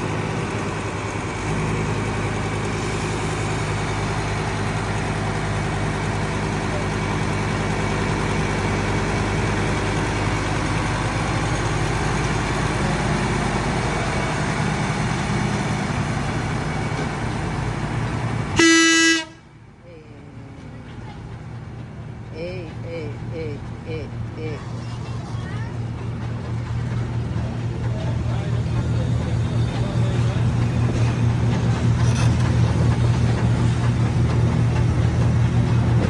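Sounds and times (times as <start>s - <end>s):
heavy engine idling: 0.0s - 36.0s.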